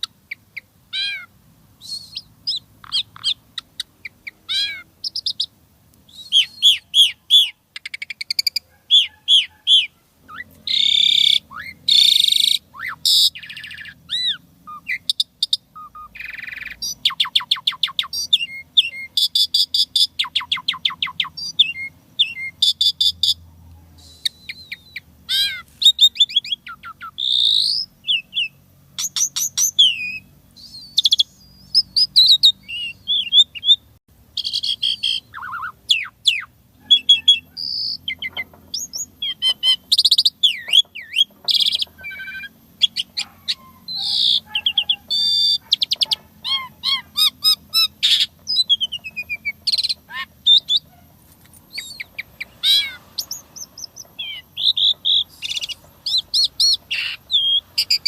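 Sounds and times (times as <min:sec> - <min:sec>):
starling singing: 0:00.0 - 0:58.0.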